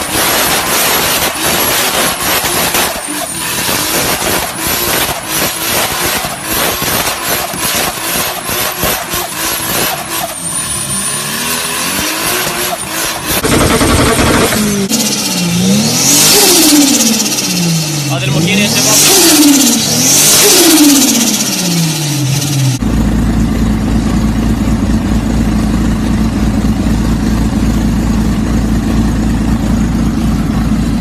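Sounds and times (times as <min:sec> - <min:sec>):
car engine popping and crackling: 0:00.0 - 0:10.6, 0:11.8 - 0:31.0
car engine running: 0:00.0 - 0:31.0.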